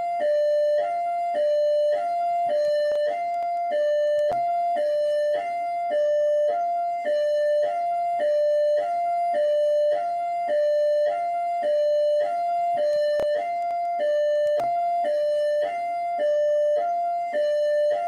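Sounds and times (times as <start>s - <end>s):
police siren hi-lo: 0.0s - 18.0s.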